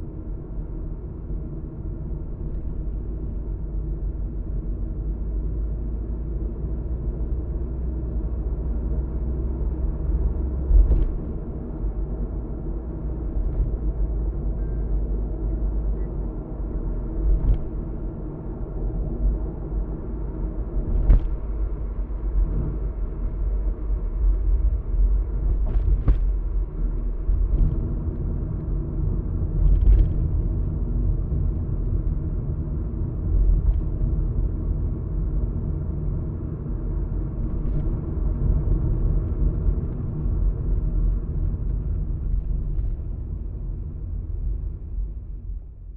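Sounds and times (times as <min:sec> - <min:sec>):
car tyre and engine rumble: 0:00.0 - 0:45.9.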